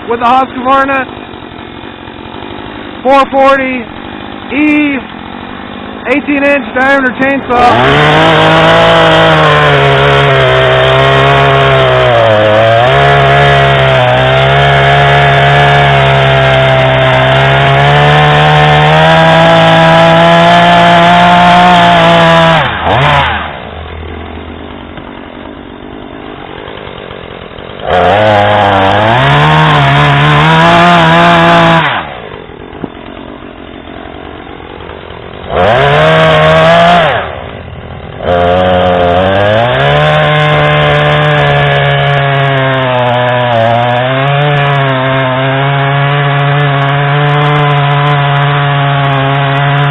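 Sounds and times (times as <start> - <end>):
chainsaw engine revving and idling: 0.0 - 49.9.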